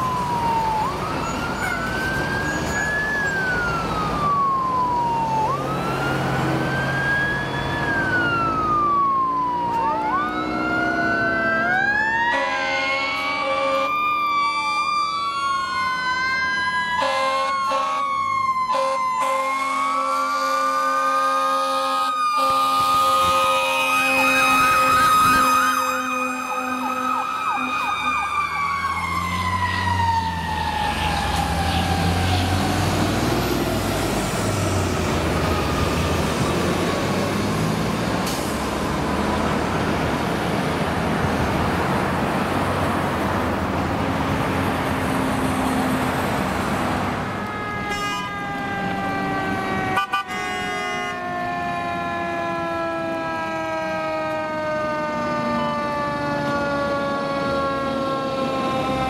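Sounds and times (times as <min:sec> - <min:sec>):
truck engine rumble: 0:00.0 - 0:12.3, 0:22.3 - 0:59.0
fire truck siren falling in pitch: 0:00.0 - 0:40.0, 0:47.1 - 0:59.0.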